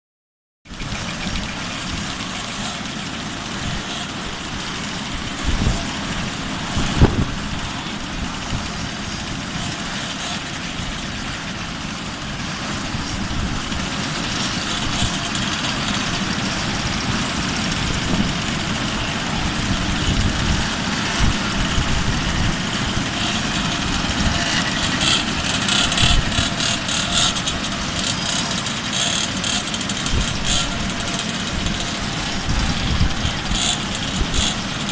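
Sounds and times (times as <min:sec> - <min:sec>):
moped engines idling: 0:00.7 - 0:34.9.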